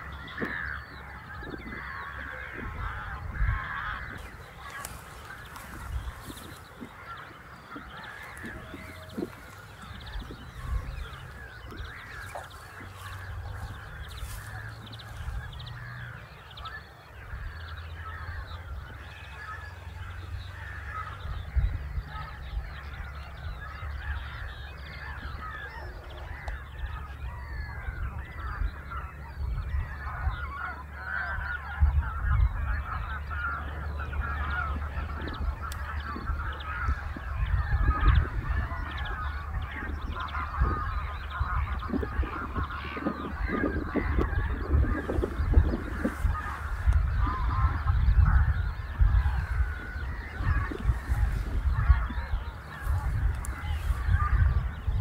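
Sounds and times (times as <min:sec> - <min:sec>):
geese calling in flight: 0:00.0 - 0:55.0.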